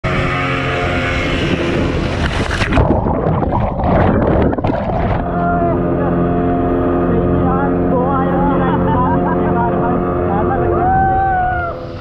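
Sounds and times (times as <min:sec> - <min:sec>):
motorboat engine drone: 0:00.0 - 0:12.0
rushing water: 0:00.0 - 0:12.0
wind: 0:00.0 - 0:12.0.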